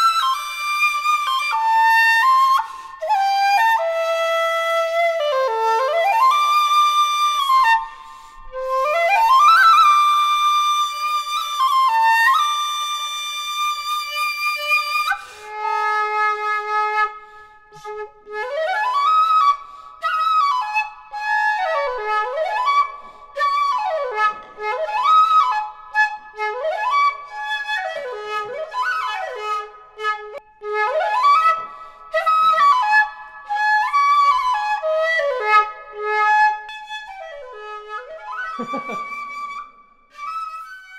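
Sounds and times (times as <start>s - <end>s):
bamboo flutes sliding pitch: 0.0s - 40.9s.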